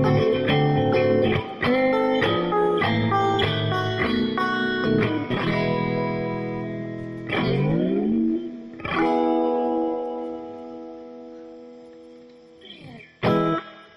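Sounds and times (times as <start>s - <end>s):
guitar plucked notes and chords: 0.0s - 13.9s.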